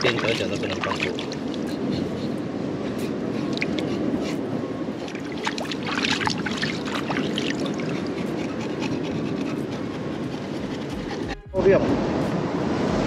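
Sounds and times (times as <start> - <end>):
seawater washing: 0.0 - 11.4.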